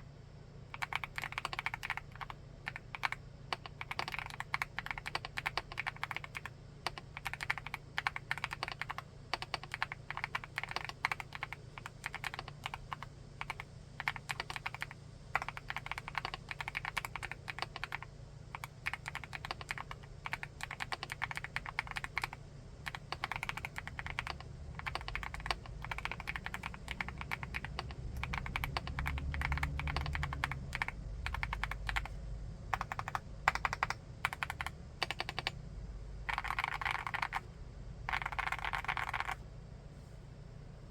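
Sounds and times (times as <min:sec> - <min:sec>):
keyboard typing: 0:00.7 - 0:35.6, 0:36.2 - 0:39.4.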